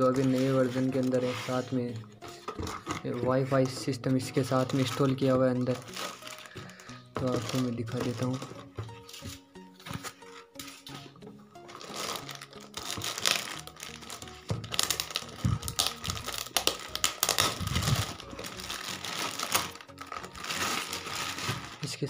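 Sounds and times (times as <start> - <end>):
background music: 0.0 - 22.0
plastic wrapping crinkling: 0.0 - 22.0.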